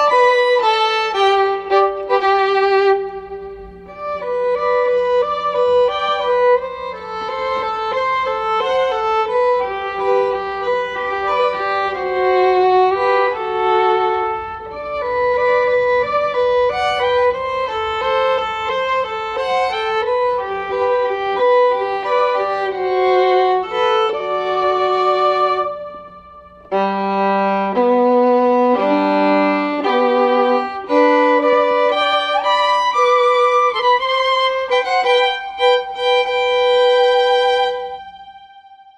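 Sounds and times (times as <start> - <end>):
sustained background notes: 0.0 - 38.9
violin playing slow melody: 0.0 - 38.9.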